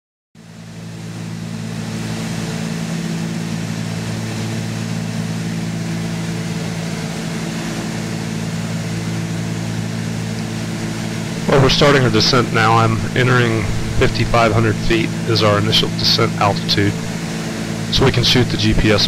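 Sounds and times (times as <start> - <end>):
twin propeller engines droning: 0.4 - 19.0.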